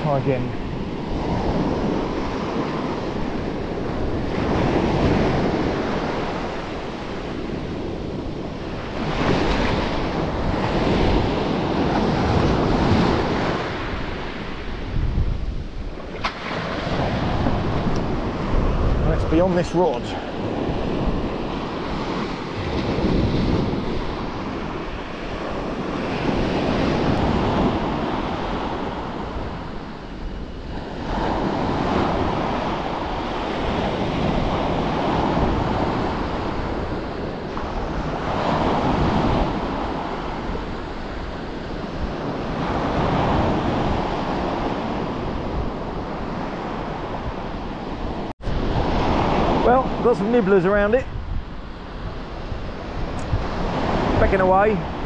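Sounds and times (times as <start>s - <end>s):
waves breaking on stony beach: 0.0s - 55.0s
wind buffeting microphone: 0.0s - 55.0s.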